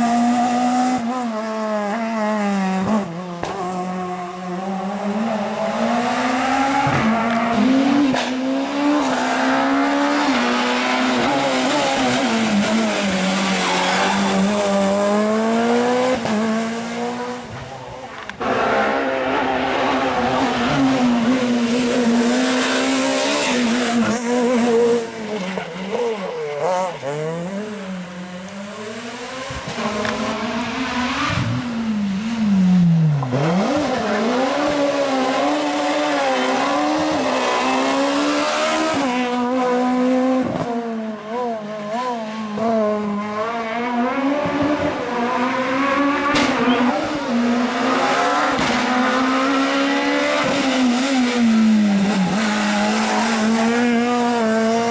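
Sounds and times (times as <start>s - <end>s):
rally car engine revving: 0.0s - 54.9s.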